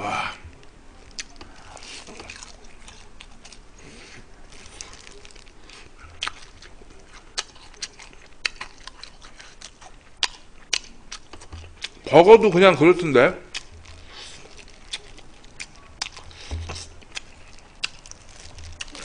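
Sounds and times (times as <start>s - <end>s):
crunching fried chicken: 1.0s - 19.0s.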